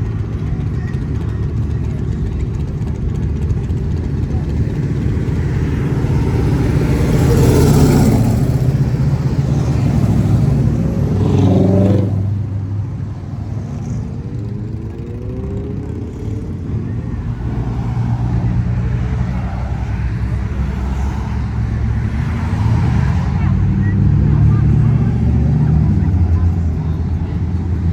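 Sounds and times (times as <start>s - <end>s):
car engine accelerating: 0.0s - 27.9s
car engines cruising past: 0.0s - 27.9s.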